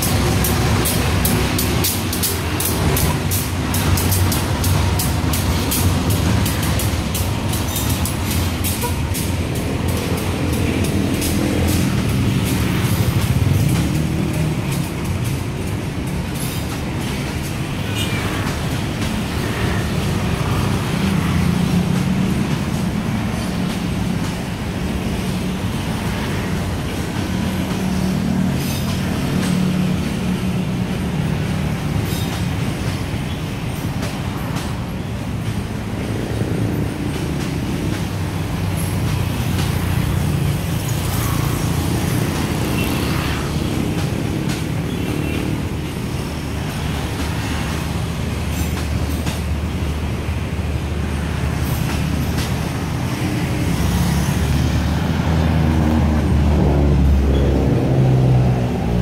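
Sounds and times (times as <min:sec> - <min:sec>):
cars driving by: 0:00.0 - 0:59.0
train coaches rumbling past: 0:00.0 - 0:59.0.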